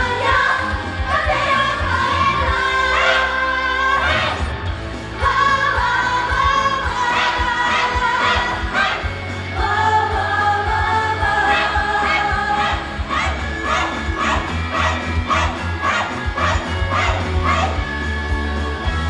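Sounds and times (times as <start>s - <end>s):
girls singing together: 0.0s - 4.5s, 5.2s - 17.8s.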